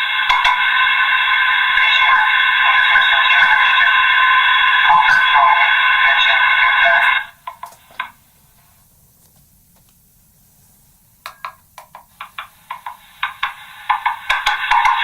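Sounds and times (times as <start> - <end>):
tinny garbled megaphone playback: 0.0 - 8.8, 11.4 - 15.0.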